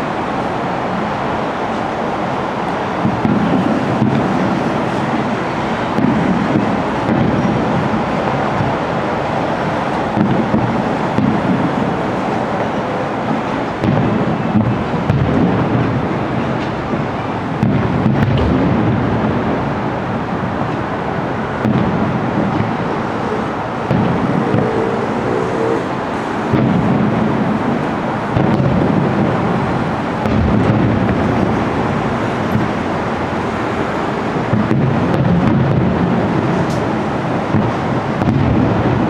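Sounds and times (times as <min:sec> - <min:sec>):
fireworks booming: 0:02.6 - 0:39.0.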